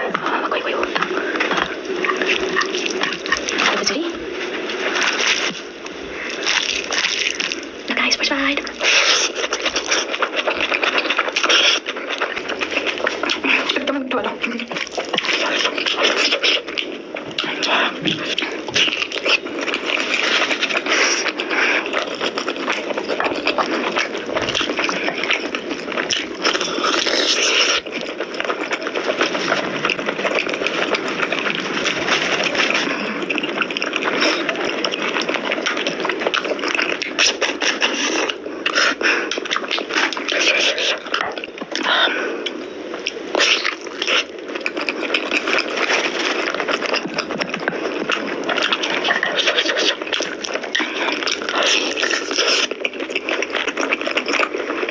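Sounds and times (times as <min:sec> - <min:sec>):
wet chewing and lip-smacking: 0:00.0 - 0:54.9.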